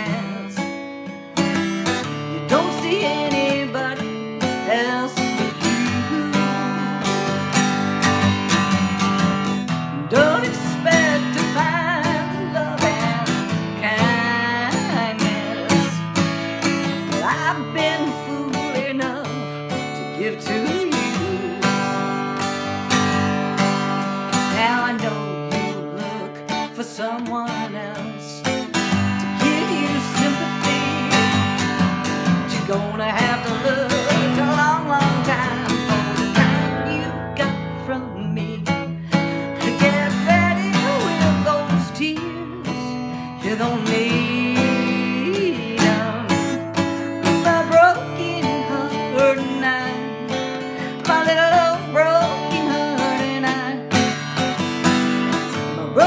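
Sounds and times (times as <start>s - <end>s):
acoustic guitar strumming: 0.0s - 56.0s
woman singing: 0.0s - 56.0s.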